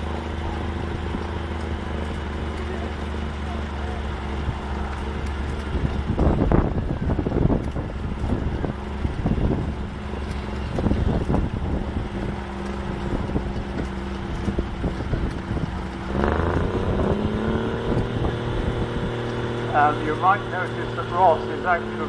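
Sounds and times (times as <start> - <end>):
engine droning under load: 0.0 - 22.0
engine revving: 0.0 - 22.0.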